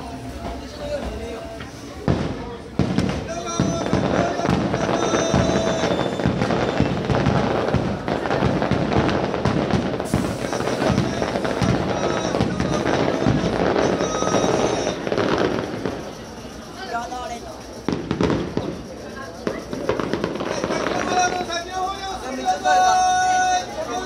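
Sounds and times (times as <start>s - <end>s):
fireworks bursts and crackling: 0.0s - 24.0s.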